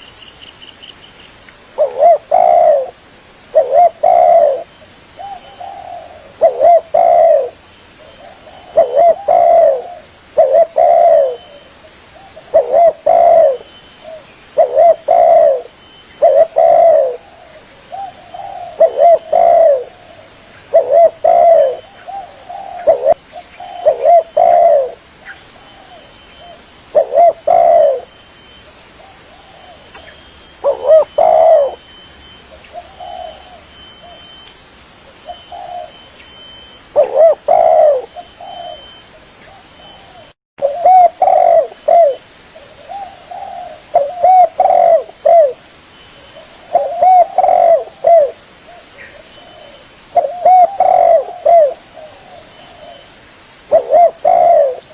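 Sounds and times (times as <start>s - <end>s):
dove cooing: 1.8s - 34.4s, 35.2s - 45.6s, 46.2s - 53.1s, 53.7s - 54.9s.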